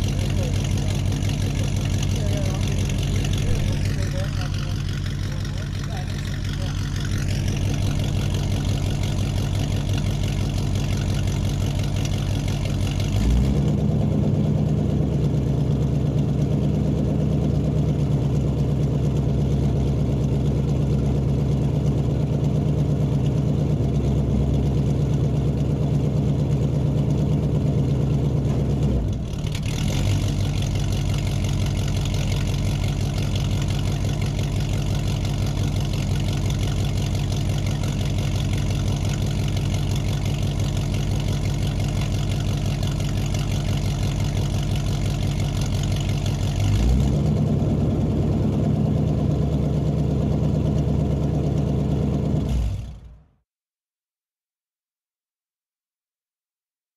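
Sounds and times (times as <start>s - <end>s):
car engine idling: 0.0s - 53.3s.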